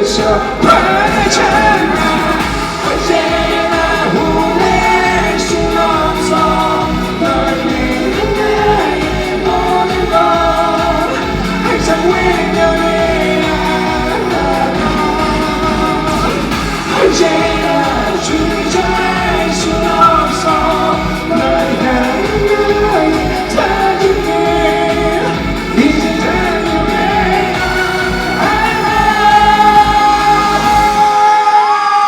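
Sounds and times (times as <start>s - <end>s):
drum and bass beat: 0.0s - 31.4s
live pop-rock band playing: 0.0s - 32.0s
sung vocals: 0.0s - 32.0s.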